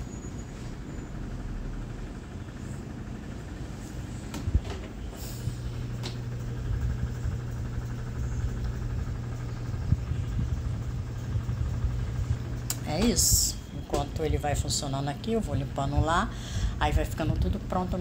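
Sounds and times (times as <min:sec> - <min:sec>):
oven humming: 0:00.0 - 0:18.0.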